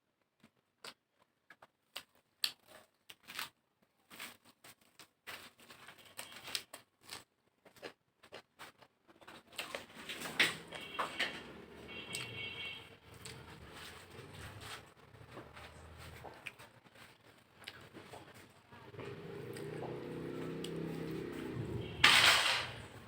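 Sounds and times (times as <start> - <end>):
wet chewing: 0.4 - 11.0, 13.0 - 21.8.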